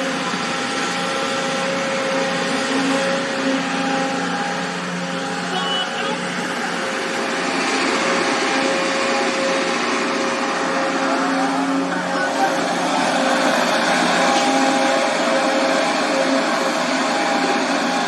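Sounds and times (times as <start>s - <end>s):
excavator engine running: 0.0s - 18.0s
steady whine: 0.0s - 18.0s.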